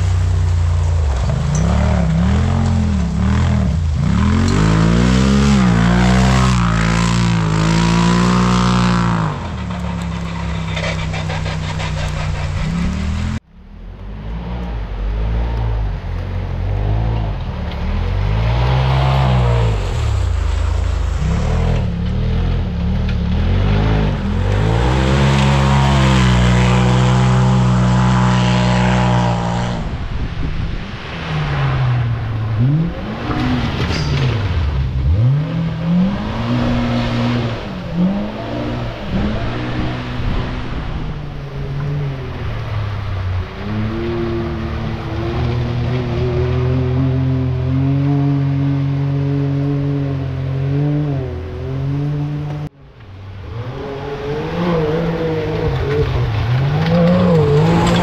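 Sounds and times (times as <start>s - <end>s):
off-road vehicle engines revving: 0.0s - 58.0s.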